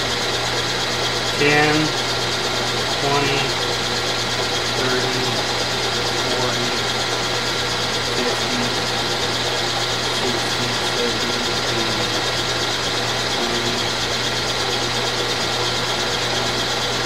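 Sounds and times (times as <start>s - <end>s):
milling machine running: 0.0s - 17.0s.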